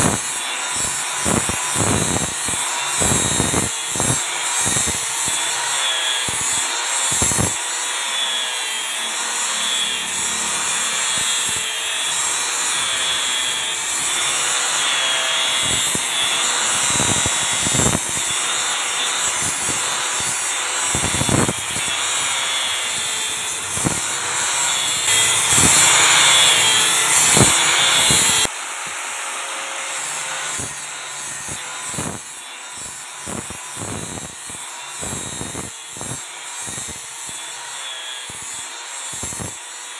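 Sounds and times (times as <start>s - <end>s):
angle grinder grinding stone: 0.0s - 39.9s.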